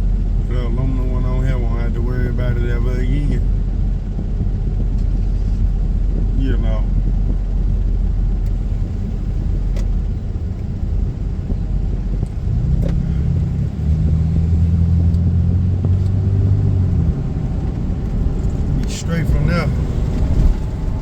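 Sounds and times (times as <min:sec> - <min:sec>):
car engine and road rumble: 0:00.0 - 0:21.0
steady low drone: 0:00.0 - 0:21.0.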